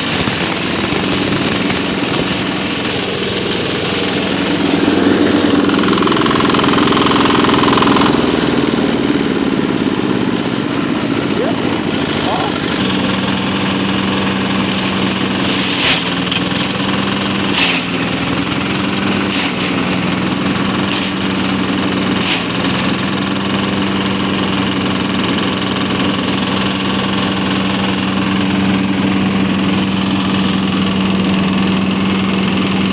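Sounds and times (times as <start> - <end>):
diesel engine humming: 0.0 - 32.9.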